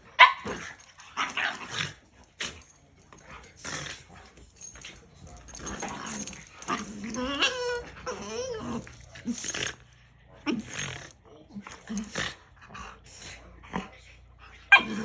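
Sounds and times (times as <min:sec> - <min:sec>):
dogs vocalising while playing: 0:00.0 - 0:15.0.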